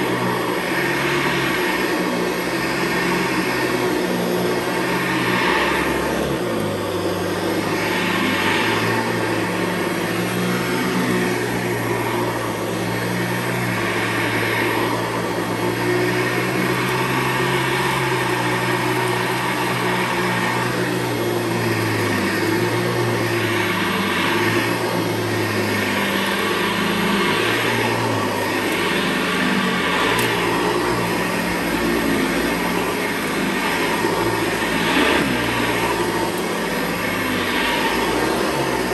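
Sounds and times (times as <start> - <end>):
rush of air and brush noise: 0.0 - 38.9
upright vacuum running on carpet: 0.0 - 38.9.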